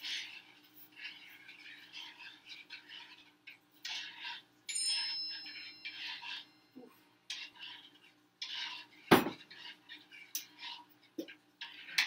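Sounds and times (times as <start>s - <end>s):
spoon stirring in saucepan: 0.0s - 12.0s.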